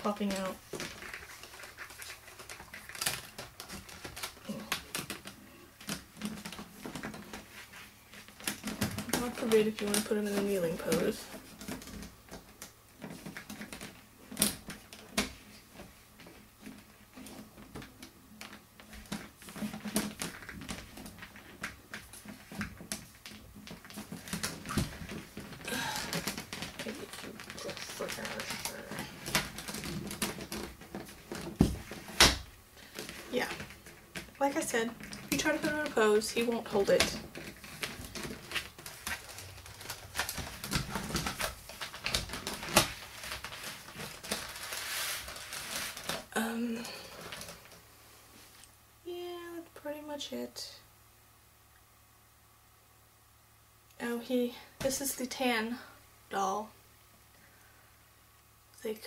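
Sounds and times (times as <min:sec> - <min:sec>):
rubbing and handling noise: 0:00.0 - 0:48.8.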